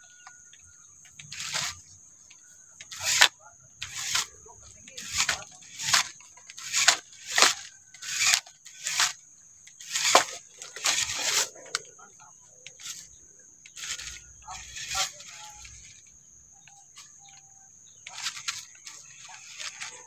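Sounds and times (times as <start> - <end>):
motor whine: 0.0 - 20.0
tyres crunching on dry soil: 0.0 - 20.0.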